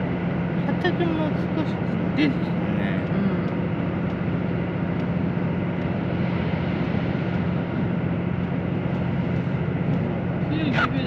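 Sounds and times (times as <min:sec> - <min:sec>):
diesel engine drone: 0:00.0 - 0:11.0
train wheels rumbling on rails: 0:00.0 - 0:11.0.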